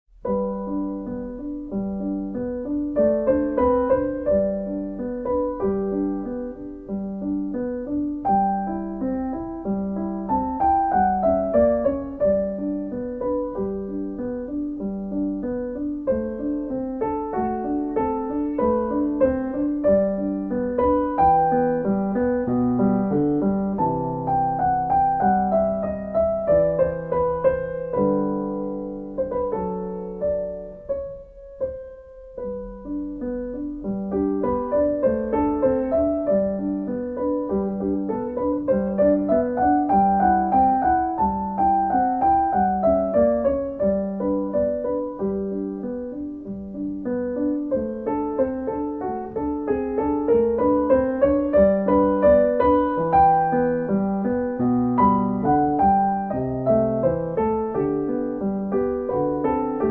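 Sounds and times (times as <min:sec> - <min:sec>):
solo piano music: 0:00.1 - 0:59.9.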